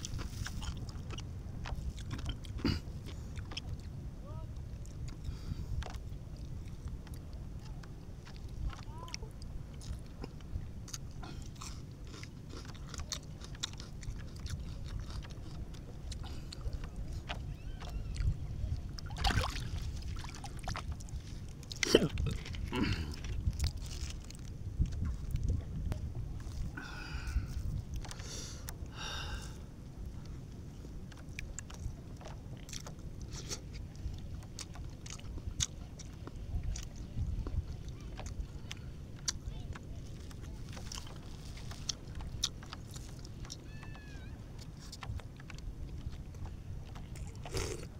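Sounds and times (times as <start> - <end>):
chewing raw fish: 0.0 - 4.0, 4.6 - 47.9
steady low rumble: 0.0 - 47.9.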